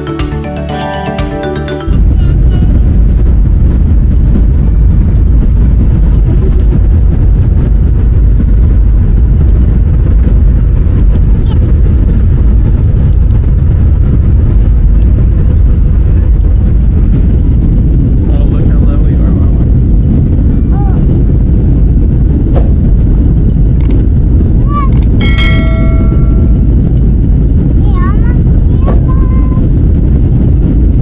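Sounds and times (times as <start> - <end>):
loud low rumble: 1.8 - 31.0.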